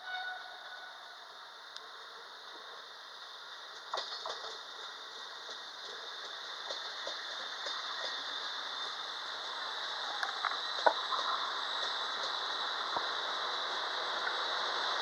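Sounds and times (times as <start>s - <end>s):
freight train rolling: 0.0s - 15.0s.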